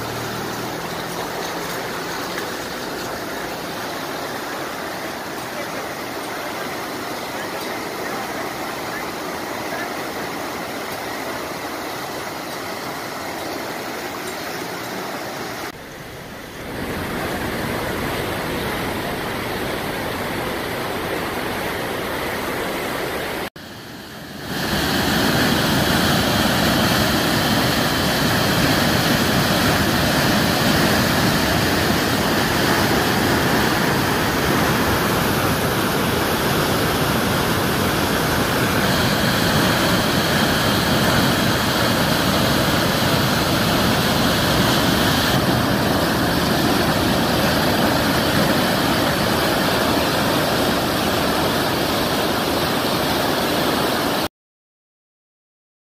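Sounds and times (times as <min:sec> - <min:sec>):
flooded river rushing: 0:00.0 - 0:54.3.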